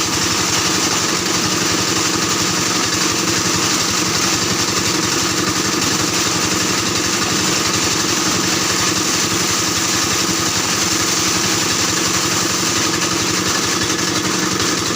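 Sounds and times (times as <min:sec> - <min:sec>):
washing machine running: 0:00.0 - 0:14.9.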